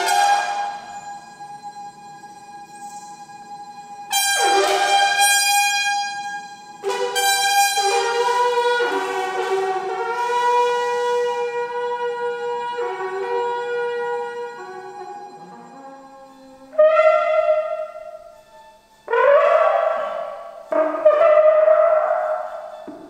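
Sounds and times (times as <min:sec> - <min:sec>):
horn blown in long notes: 0:00.0 - 0:23.0
steady high held tone: 0:00.0 - 0:23.0.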